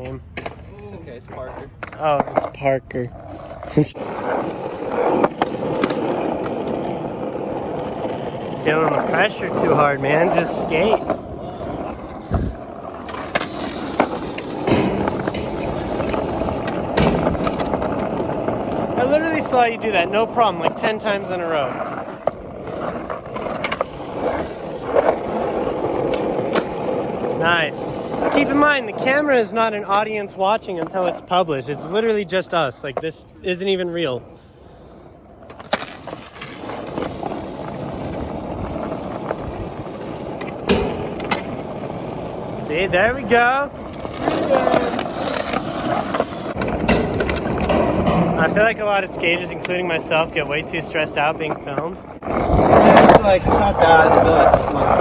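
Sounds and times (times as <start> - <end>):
skateboard wheels rolling: 0.0 - 55.0
skateboard clacks: 1.3 - 2.6, 3.9 - 32.1, 35.3 - 55.0.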